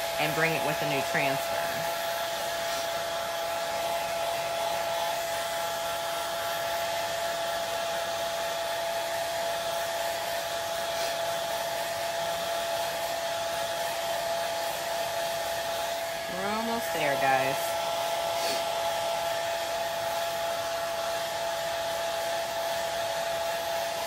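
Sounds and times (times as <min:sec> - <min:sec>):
blow dryer running: 0:00.0 - 0:24.0.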